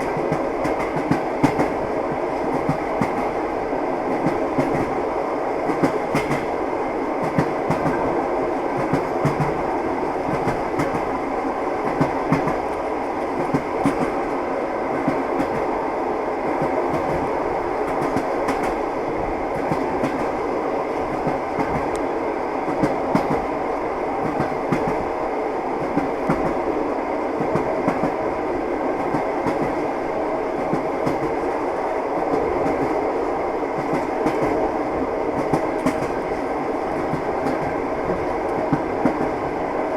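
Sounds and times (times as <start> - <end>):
train wheels clattering on rails: 0.0 - 11.2, 11.8 - 15.8, 16.4 - 25.2, 25.8 - 26.7, 27.4 - 28.3, 28.9 - 39.6
continuous train rumble: 0.0 - 39.9.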